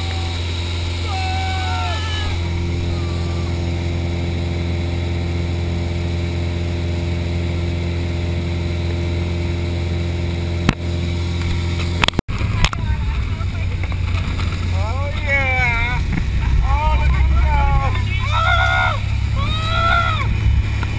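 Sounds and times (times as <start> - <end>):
propeller plane engine droning: 0.0 - 20.9.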